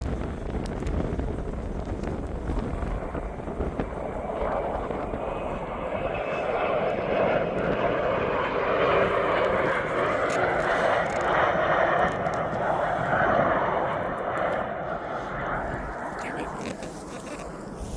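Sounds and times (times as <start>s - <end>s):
jet engines roaring: 0.0s - 17.9s
wind buffeting microphone: 0.0s - 17.9s.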